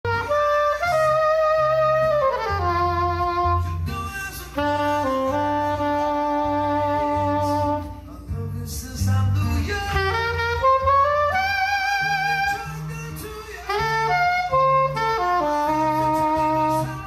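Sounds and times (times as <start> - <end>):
soprano saxophone long notes: 0.0 - 8.2, 9.9 - 17.0.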